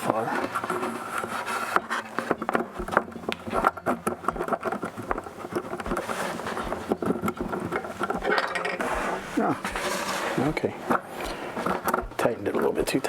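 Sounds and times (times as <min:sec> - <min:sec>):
tool clicking and scraping on nut: 0:00.7 - 0:12.7.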